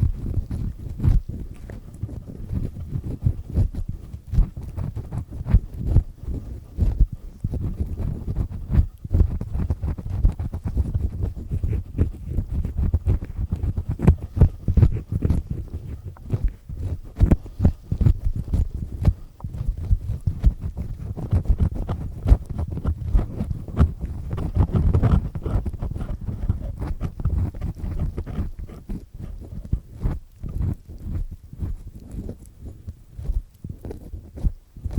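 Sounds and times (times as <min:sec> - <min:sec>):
earpick scraping inside ear: 0:00.0 - 0:34.9.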